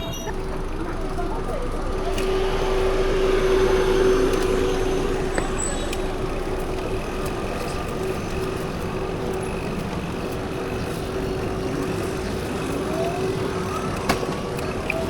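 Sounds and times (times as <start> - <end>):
mechanical hum and rumble: 0.0 - 15.0.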